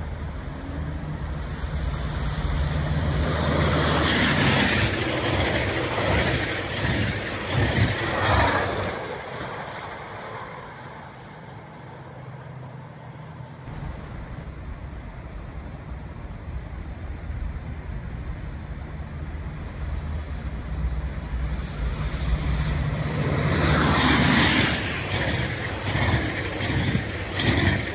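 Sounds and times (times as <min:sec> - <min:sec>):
locomotive hum: 0:00.0 - 0:27.9
train wheels rumbling on rails: 0:00.0 - 0:27.9.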